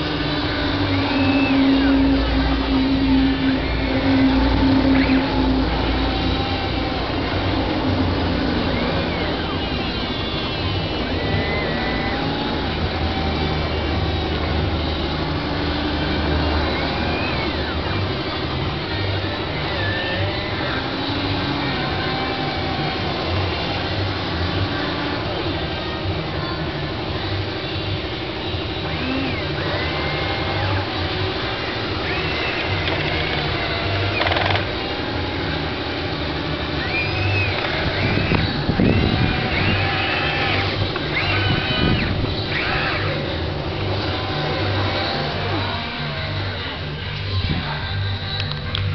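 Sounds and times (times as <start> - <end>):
steady low hum: 0.0 - 48.9
toy excavator motors whining: 0.0 - 48.9.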